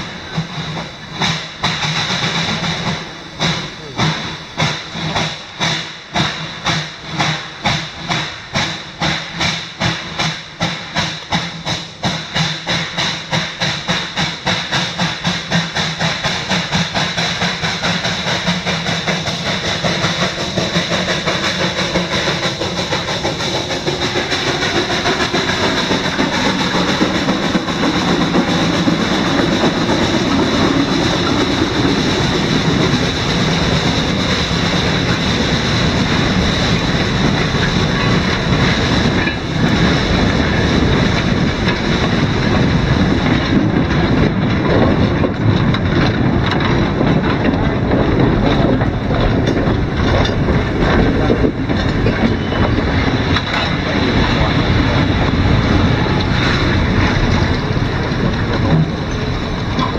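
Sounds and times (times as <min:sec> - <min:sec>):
steam locomotive exhaust chuffs: 0:00.0 - 0:59.9
train cars clicking over rail joints: 0:00.0 - 0:59.9.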